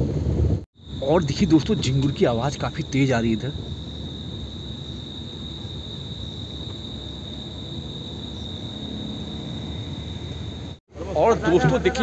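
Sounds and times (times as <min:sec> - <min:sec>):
crickets chirping: 0:00.8 - 0:12.0.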